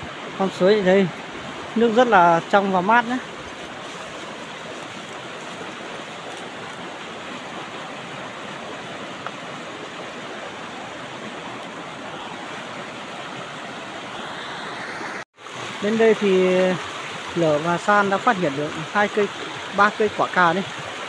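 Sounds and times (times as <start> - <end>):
stream rushing over rapids: 0.0 - 21.0.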